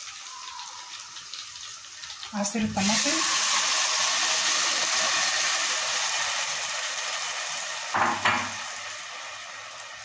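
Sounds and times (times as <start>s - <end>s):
juice sizzling in hot pot: 0.0s - 10.0s.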